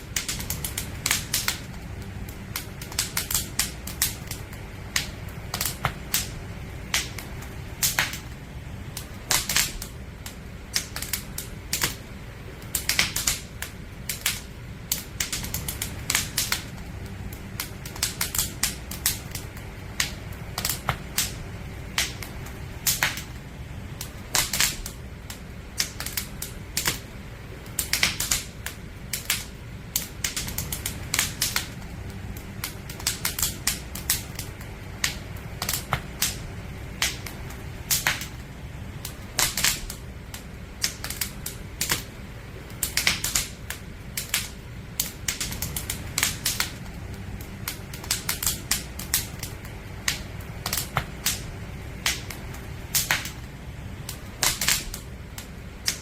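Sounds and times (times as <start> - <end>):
campfire crackles and pops: 0.0 - 56.0
low rumble of flames: 0.0 - 56.0.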